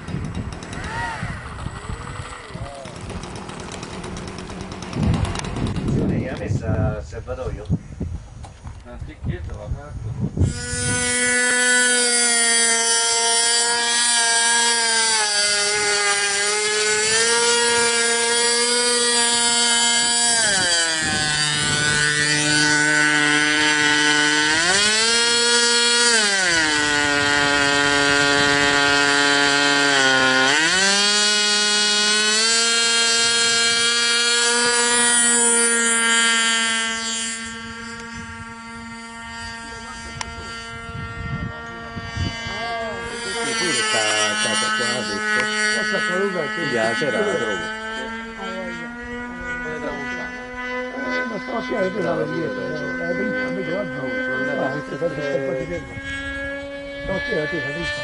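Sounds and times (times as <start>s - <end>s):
model airplane engine revving: 0.0s - 8.4s, 10.2s - 58.0s.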